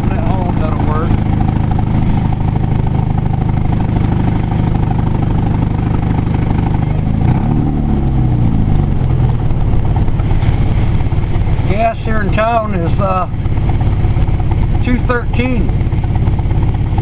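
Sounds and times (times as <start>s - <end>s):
car engine: 0.0s - 17.0s
road noise inside car: 0.0s - 17.0s.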